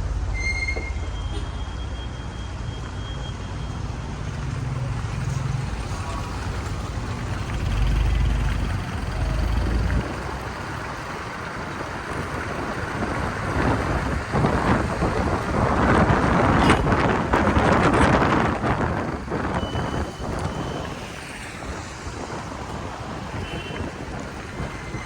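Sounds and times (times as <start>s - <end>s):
rain: 3.3s - 25.0s
wind rumbling on microphone: 4.6s - 25.0s.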